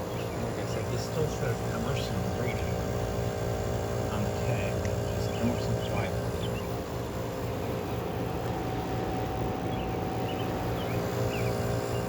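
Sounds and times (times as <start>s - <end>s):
air conditioner fan rushing air: 0.0s - 12.0s
compressor low hum: 0.0s - 12.0s.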